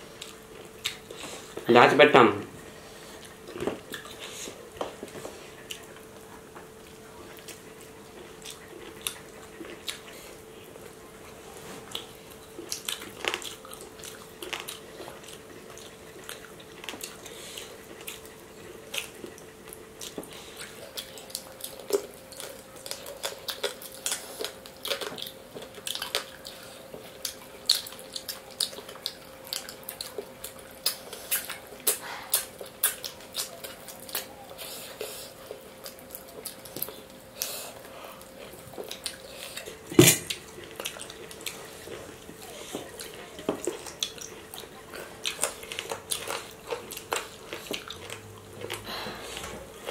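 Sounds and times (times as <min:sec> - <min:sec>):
faint steady hum: 0:00.0 - 0:49.9
people chewing food: 0:00.0 - 0:49.9.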